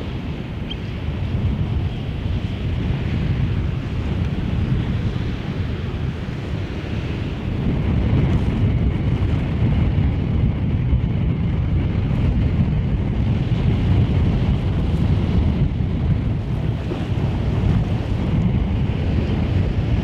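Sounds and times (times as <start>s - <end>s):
water washing along shore: 0.0s - 9.9s, 11.7s - 20.0s
wind buffeting microphone: 0.0s - 20.0s.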